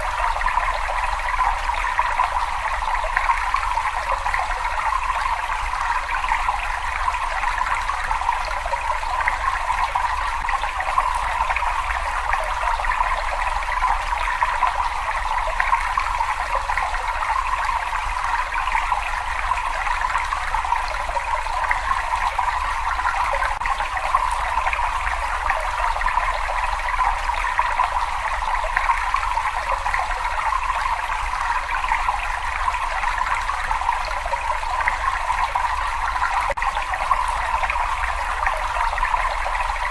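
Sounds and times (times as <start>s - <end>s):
water rushing and trickling: 0.0s - 39.9s.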